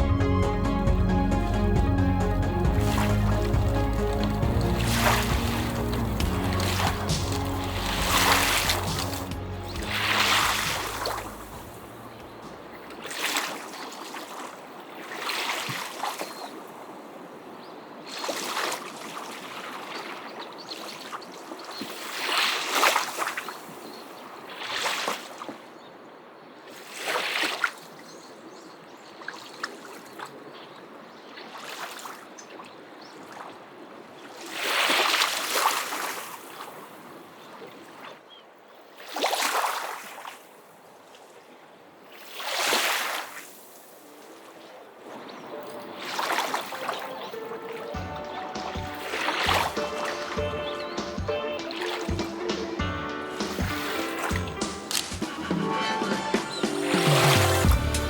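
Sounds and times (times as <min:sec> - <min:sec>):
small waves breaking on beach: 0:02.8 - 0:57.7.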